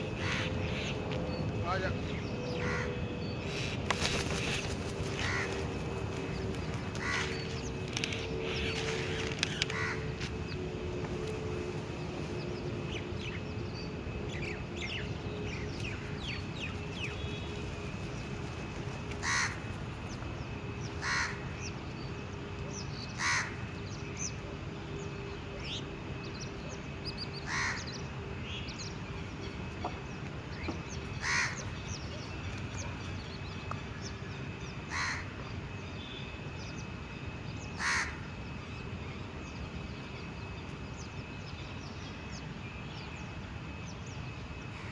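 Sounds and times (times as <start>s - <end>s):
thin steady high whine: 0.0s - 44.9s.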